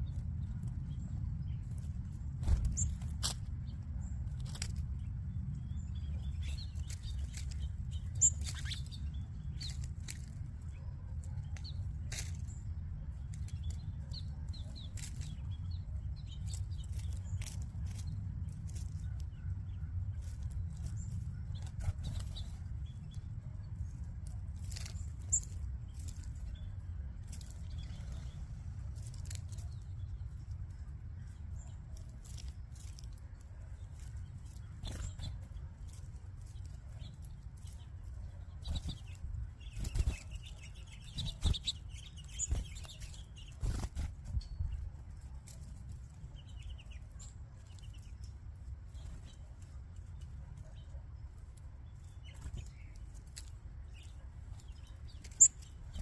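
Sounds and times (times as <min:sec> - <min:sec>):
steady low rumble: 0:00.0 - 0:50.5
birds clicking and chirping: 0:00.0 - 0:56.0.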